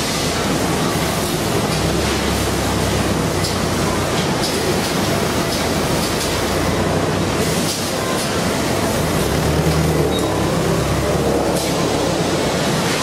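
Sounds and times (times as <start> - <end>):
factory machinery noise: 0.0 - 13.0
forklift truck engine running: 0.0 - 13.0.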